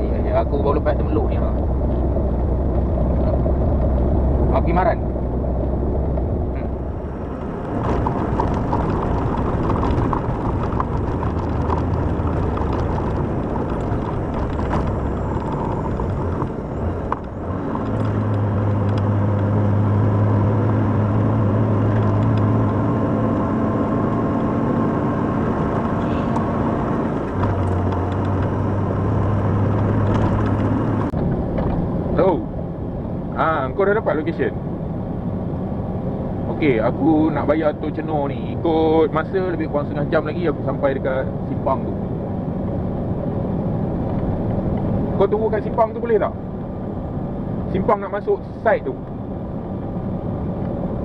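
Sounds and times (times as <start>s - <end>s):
low engine drone: 0.0s - 51.0s
road noise: 0.0s - 51.0s
truck diesel engine: 0.0s - 51.0s.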